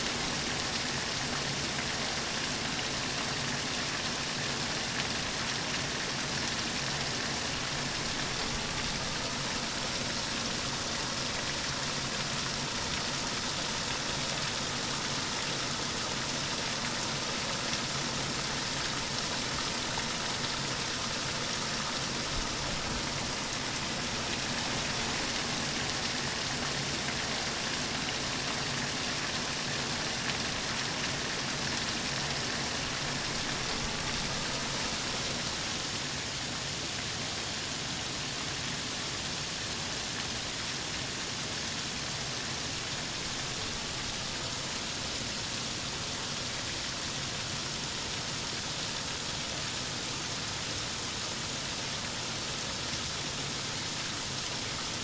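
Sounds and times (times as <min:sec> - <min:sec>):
small waterfall splashing on rock: 0:00.0 - 0:55.0.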